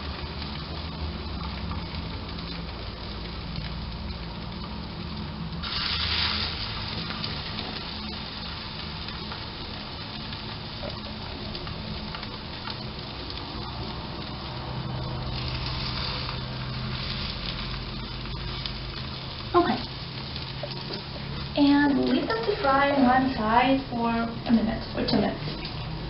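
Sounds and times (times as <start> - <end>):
cookies sizzling in butter: 0.0 - 26.0
low steady hum: 0.0 - 26.0.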